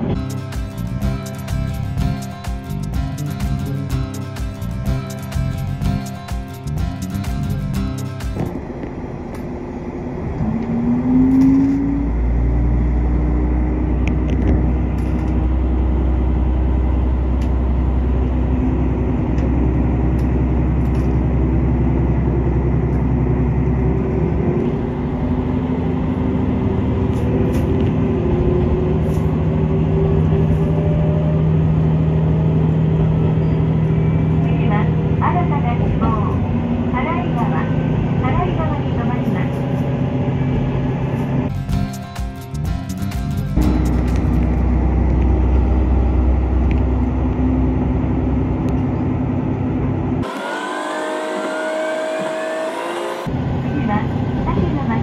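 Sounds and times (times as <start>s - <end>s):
diesel railcar engine drone: 0.0s - 55.0s.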